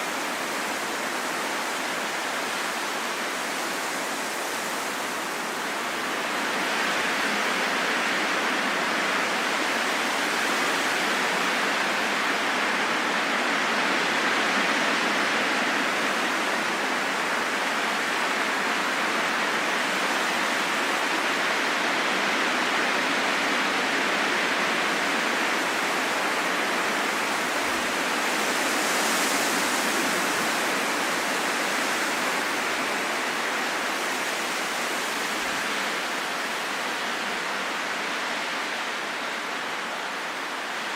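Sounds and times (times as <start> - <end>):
steady wind hiss: 0.0 - 40.9.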